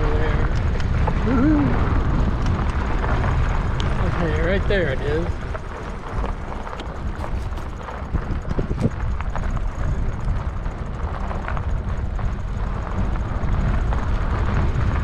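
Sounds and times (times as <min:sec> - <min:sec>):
bike clicking over stones: 0:00.0 - 0:15.0
tyre noise on dirt road: 0:00.0 - 0:15.0
wind rumbling on microphone: 0:00.0 - 0:15.0.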